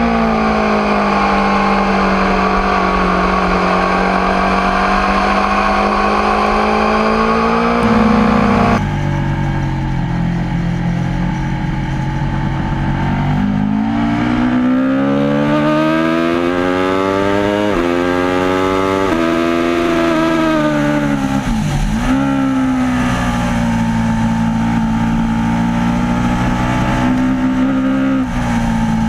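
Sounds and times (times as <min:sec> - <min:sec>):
motorcycle engine revving: 0:00.9 - 0:09.7, 0:11.4 - 0:29.0.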